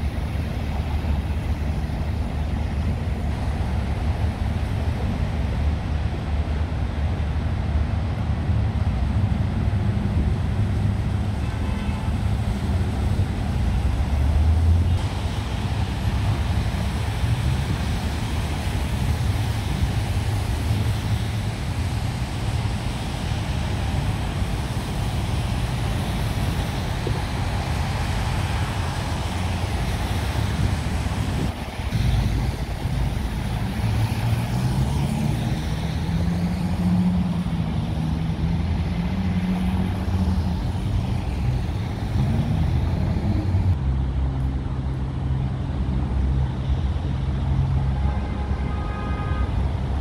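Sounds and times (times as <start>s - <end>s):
cars passing: 0.0s - 50.0s
tyres hissing on wet road: 0.0s - 50.0s.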